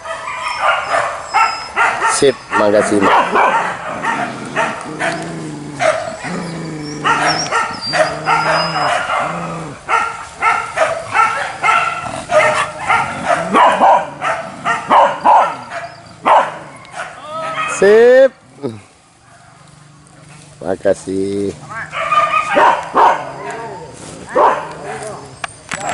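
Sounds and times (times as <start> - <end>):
dogs whining: 0.0 - 17.8, 21.9 - 25.9
dogs barking and yipping: 0.0 - 18.2, 19.1 - 20.6, 21.6 - 25.9.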